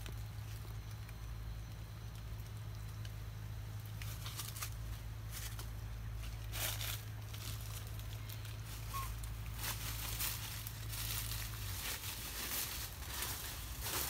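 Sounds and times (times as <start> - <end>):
dry leaves and twigs crackling: 0.0 - 14.0
faint low hum: 0.0 - 14.0.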